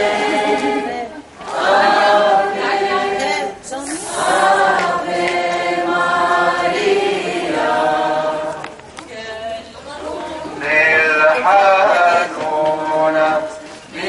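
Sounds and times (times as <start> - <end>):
crowd singing a hymn: 0.0 - 14.0.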